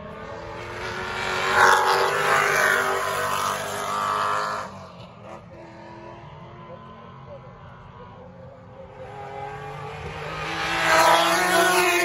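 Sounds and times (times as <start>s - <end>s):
racing car passing at high revs: 0.0s - 12.0s.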